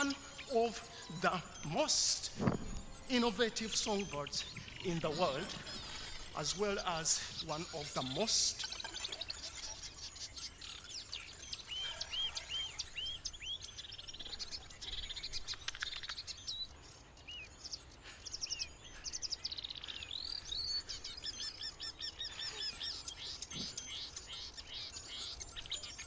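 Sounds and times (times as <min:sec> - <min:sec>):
warbler singing: 0:00.0 - 0:26.0.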